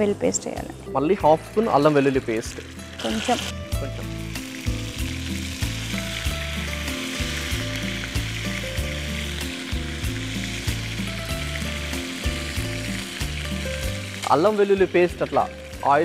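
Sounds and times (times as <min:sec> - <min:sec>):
oil sizzling in frying pan: 0:01.3 - 0:16.0.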